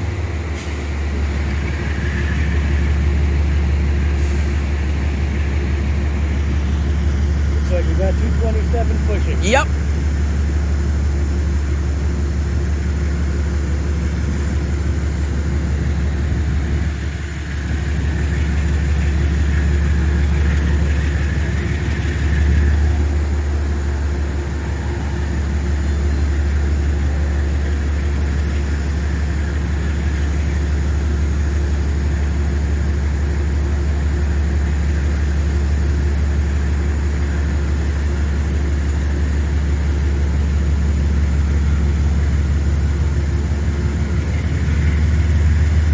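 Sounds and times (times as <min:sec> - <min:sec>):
diesel locomotive engine hum: 0:00.0 - 0:45.9.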